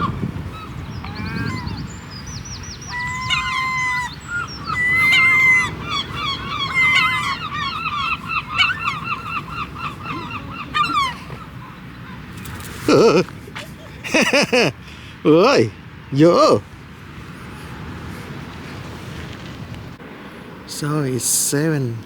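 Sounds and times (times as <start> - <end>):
gulls calling: 0.0 - 19.0.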